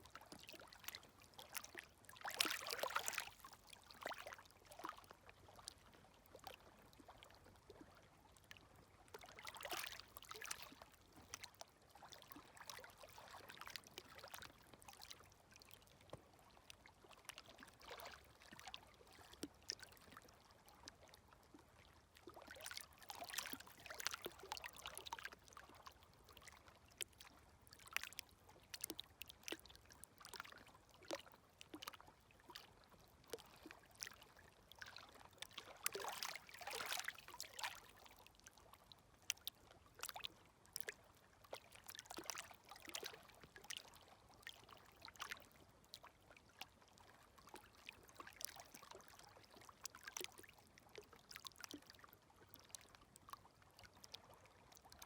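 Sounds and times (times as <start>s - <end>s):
small waves lapping at shore: 0.0s - 55.0s.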